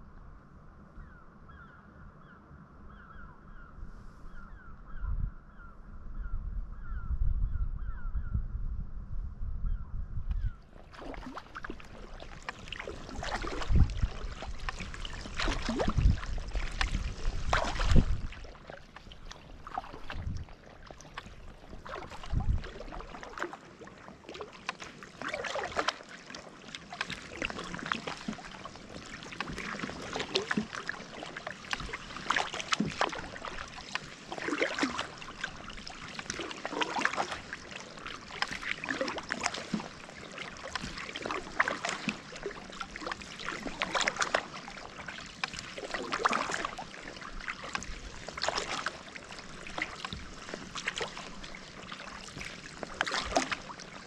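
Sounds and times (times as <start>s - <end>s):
paddle splashing in water: 10.6s - 54.0s
water dribbling off paddle: 10.7s - 54.0s.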